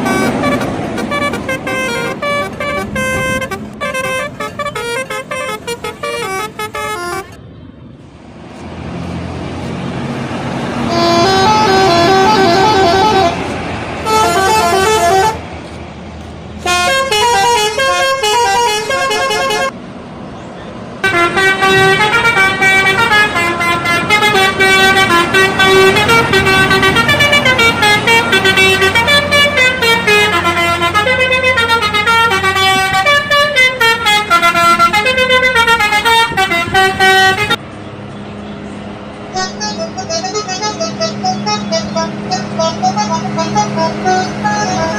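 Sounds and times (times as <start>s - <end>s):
bus air horn playing tune: 0.0s - 7.4s, 10.8s - 15.5s, 16.6s - 19.8s, 21.0s - 37.6s, 39.3s - 44.9s
low engine hum: 0.0s - 44.9s.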